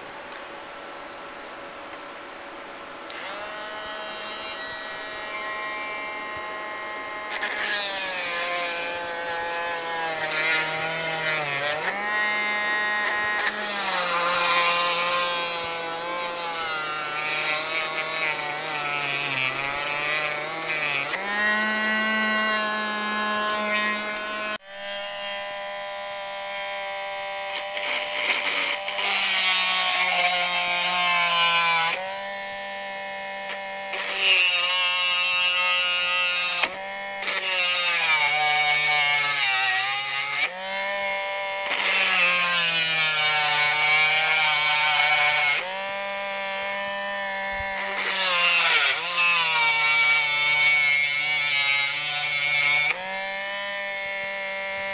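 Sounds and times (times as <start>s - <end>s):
rotary tool motor whine: 3.1s - 53.2s.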